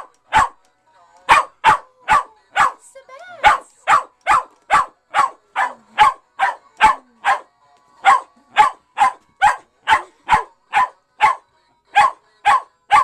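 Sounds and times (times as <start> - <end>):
dog barking: 0.0 - 0.6, 1.3 - 2.8, 3.4 - 13.0.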